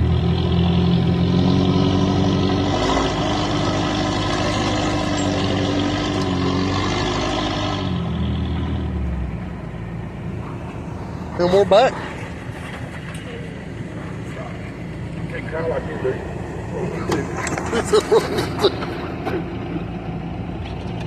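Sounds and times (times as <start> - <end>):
off-road vehicle engine driving: 0.0 - 21.0.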